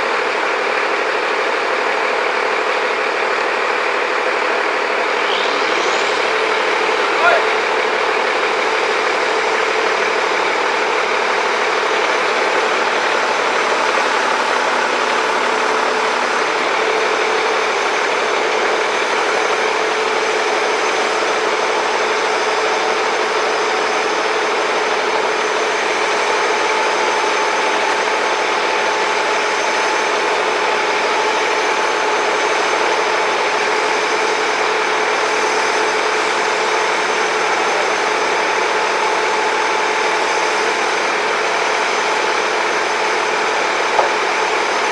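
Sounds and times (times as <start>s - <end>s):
heavy machinery engine droning: 0.0s - 44.9s.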